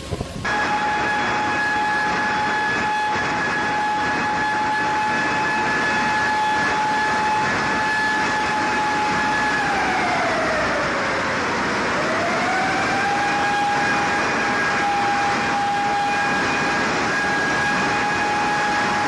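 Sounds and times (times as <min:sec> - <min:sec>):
loud rushing noise: 0:00.0 - 0:19.0
siren: 0:00.5 - 0:19.0.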